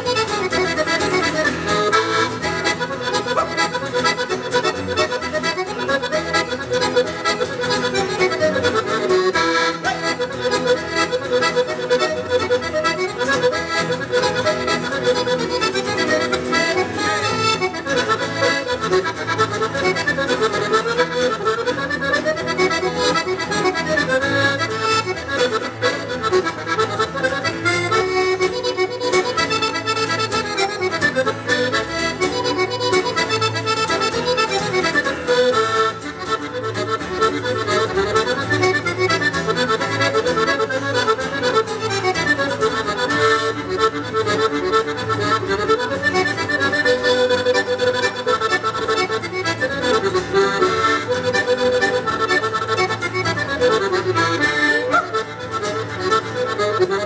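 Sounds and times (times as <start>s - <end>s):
accordion folk melody: 0.0s - 57.0s.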